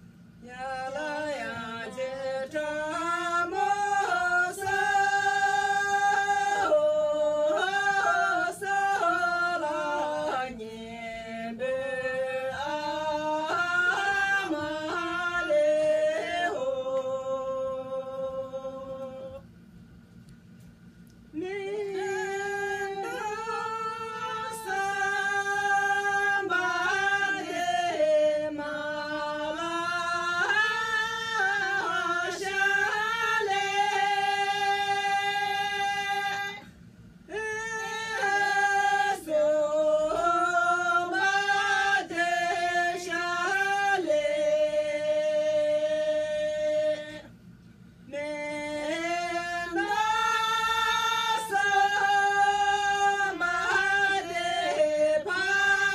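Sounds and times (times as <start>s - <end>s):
women singing unaccompanied: 0.0s - 19.5s, 21.3s - 47.4s, 48.1s - 55.9s.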